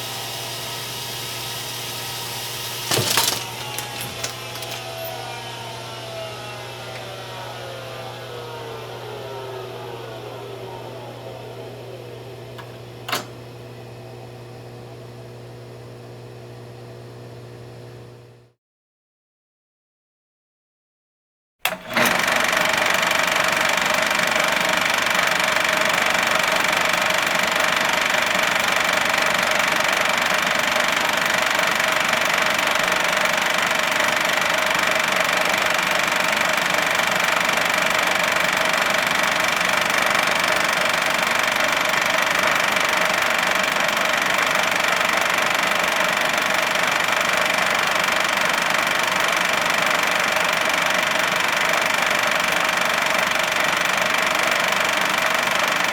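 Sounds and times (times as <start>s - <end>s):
projector running: 0.0s - 18.5s, 21.7s - 55.9s.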